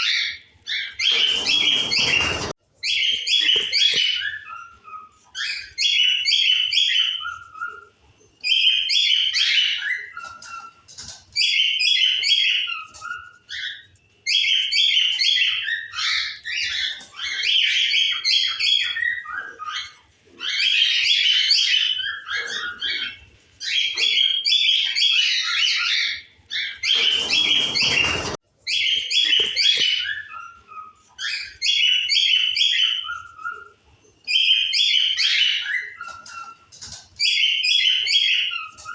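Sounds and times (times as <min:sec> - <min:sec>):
cockatiels chirping: 0:00.0 - 0:38.9.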